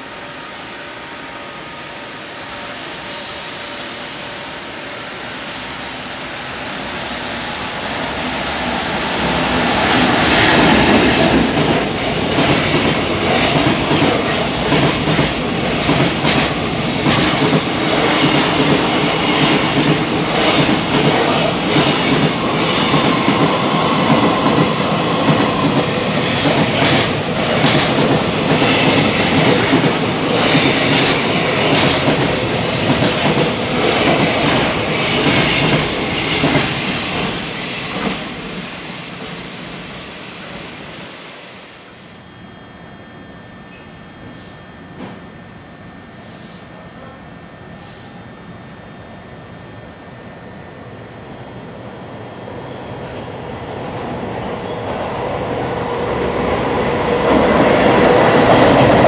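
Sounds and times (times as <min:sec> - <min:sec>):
electric locomotive approaching: 0:00.0 - 0:59.0.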